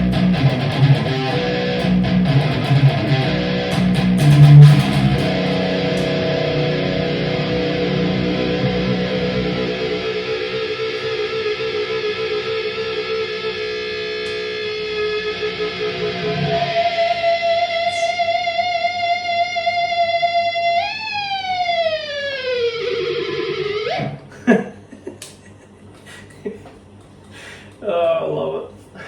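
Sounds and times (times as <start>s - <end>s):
electric guitar sustained notes: 0.0s - 24.5s.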